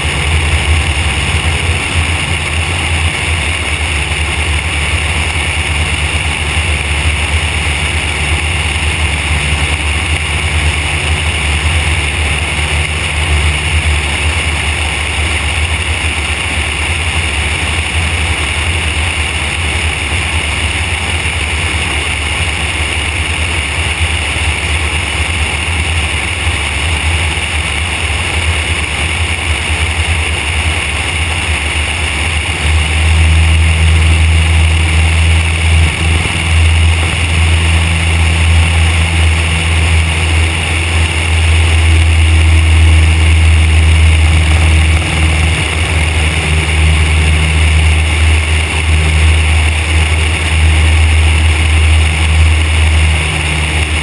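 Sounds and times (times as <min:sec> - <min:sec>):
aircraft engine and propeller droning: 0:00.0 - 0:54.0
airflow rushing: 0:00.0 - 0:54.0.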